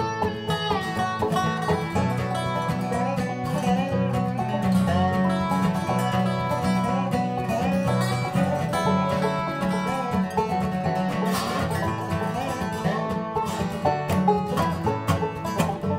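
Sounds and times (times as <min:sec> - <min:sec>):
acoustic guitar strumming: 0:00.0 - 0:15.9
banjo: 0:00.0 - 0:15.9
slide resonator guitar: 0:00.0 - 0:15.9.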